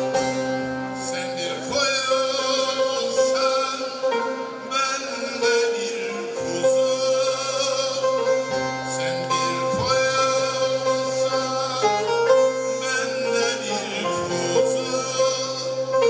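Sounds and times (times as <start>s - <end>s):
man singing long held notes: 0.0s - 16.0s
plucked long-necked lute: 0.0s - 16.0s.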